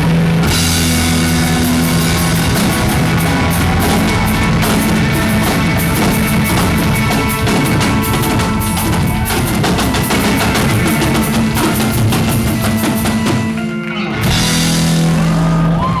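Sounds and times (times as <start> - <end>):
rock band playing loudly: 0.0 - 16.0.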